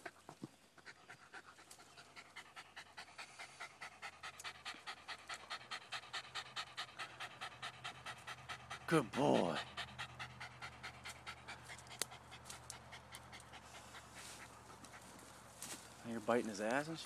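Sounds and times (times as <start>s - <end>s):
dog panting: 0.0s - 16.7s.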